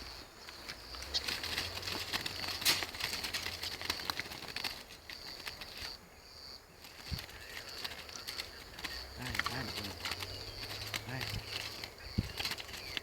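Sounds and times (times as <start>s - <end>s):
birds flapping wings in cages: 0.6s - 6.0s, 6.8s - 13.0s.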